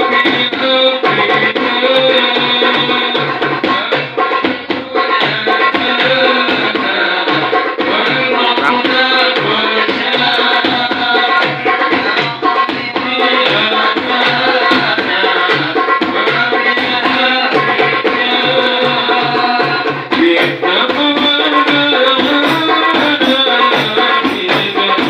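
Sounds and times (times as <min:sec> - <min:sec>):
frame drums beating: 0:00.0 - 0:25.0.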